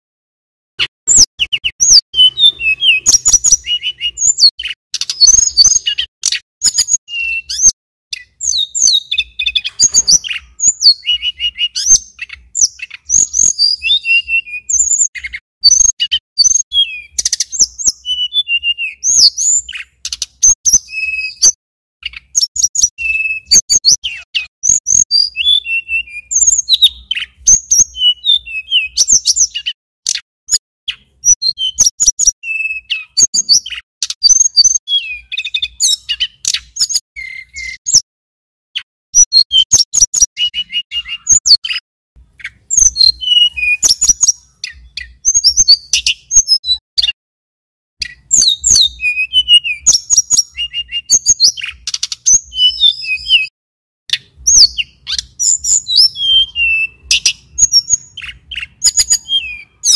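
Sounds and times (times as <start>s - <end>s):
bird chirping and whistling: 0.8s - 38.0s, 38.8s - 47.2s, 48.0s - 53.5s, 54.1s - 59.9s.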